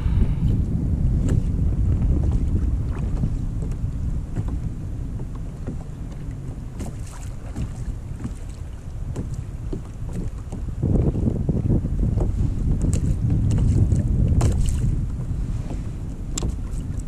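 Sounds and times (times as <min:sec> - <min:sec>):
water splashing against hull: 0:00.0 - 0:17.0
wind buffeting microphone: 0:00.0 - 0:17.0.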